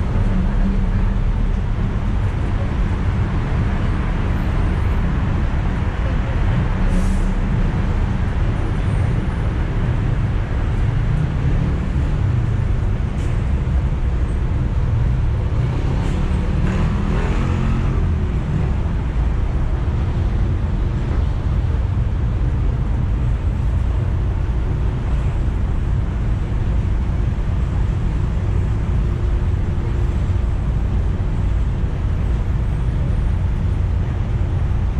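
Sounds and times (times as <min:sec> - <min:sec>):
bus engine and road rumble: 0:00.0 - 0:34.9.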